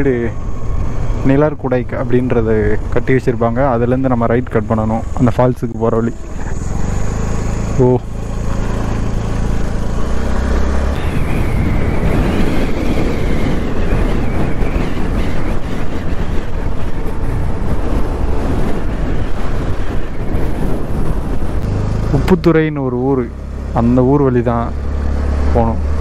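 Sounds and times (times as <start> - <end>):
vehicle engine hum: 0.0 - 26.0
wind and road noise: 0.0 - 26.0.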